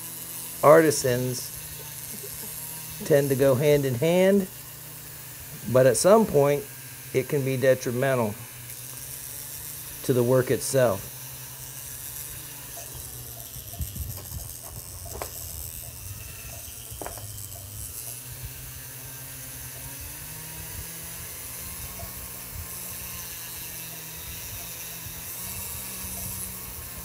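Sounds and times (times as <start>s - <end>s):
rotary tool motor whir: 0.0s - 27.0s.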